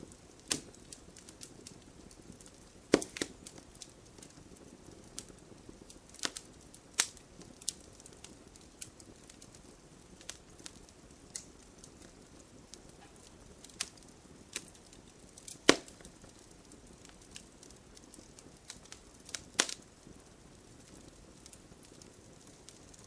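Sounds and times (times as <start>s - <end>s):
soft steady hiss: 0.0s - 23.0s
wood fire crackling: 0.0s - 23.0s.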